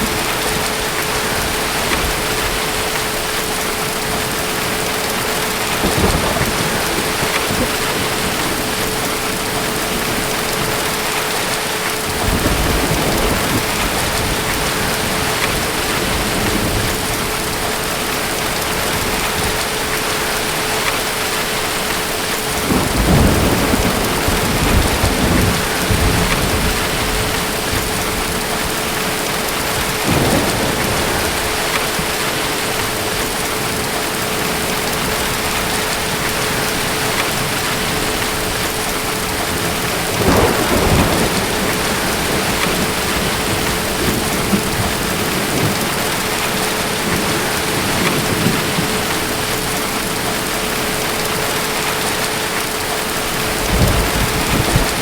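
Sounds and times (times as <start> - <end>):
distant thunder rumbling: 0.0 - 52.3, 53.3 - 55.0
heavy rain: 0.0 - 55.0.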